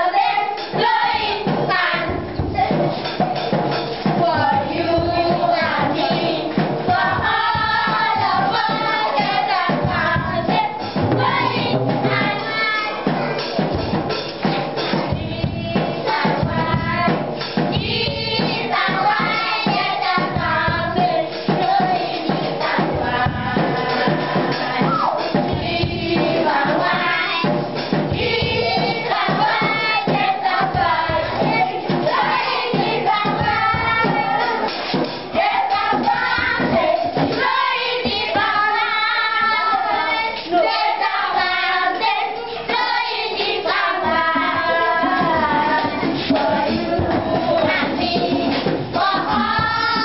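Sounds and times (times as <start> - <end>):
children and women singing: 0.0 - 50.0
sharp percussive beat: 0.0 - 50.0.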